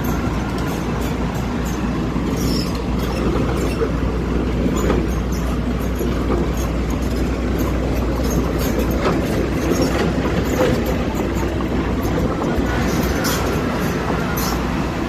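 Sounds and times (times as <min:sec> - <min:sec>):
light clicks and clatter: 0:00.0 - 0:14.6
excavator diesel engine running: 0:00.0 - 0:15.0.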